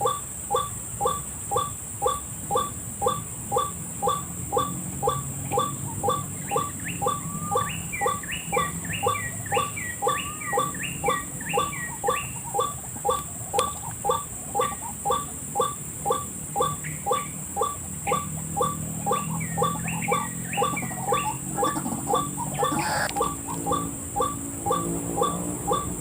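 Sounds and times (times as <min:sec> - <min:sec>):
steady high hiss: 0:00.0 - 0:06.8, 0:09.7 - 0:19.8, 0:20.4 - 0:26.0
bird croaking calls: 0:00.0 - 0:26.0
higher falling bird notes: 0:00.0 - 0:26.0.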